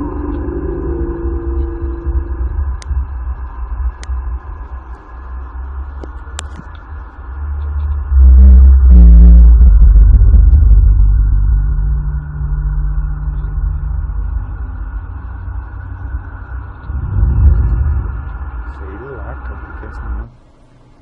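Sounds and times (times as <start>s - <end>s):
low rumbling drone: 0.0s - 21.0s.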